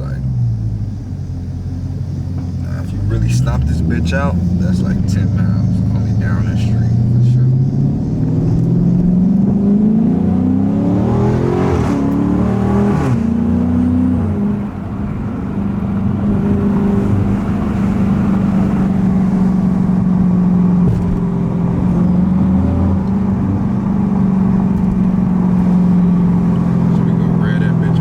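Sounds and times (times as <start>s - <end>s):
car engine and loud exhaust: 0.0s - 28.0s.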